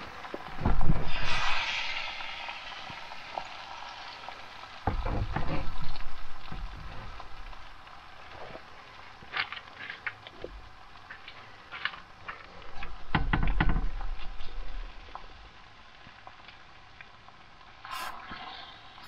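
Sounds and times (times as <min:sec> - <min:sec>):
egg sizzling in a frying pan: 0:00.0 - 0:19.0.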